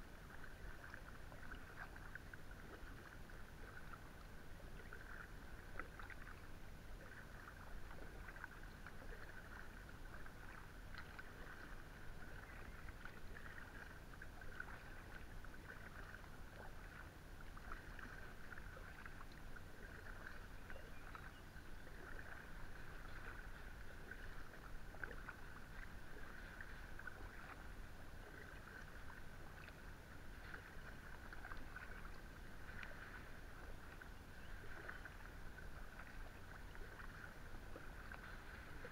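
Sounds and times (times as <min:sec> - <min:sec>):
paddle splashes and drips: 0:00.0 - 0:38.9.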